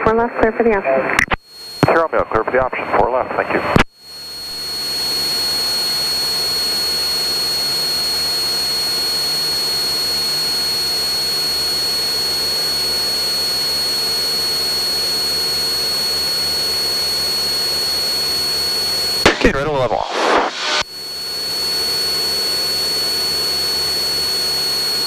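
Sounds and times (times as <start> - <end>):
airplane engine and propeller drone: 1.8 - 25.0.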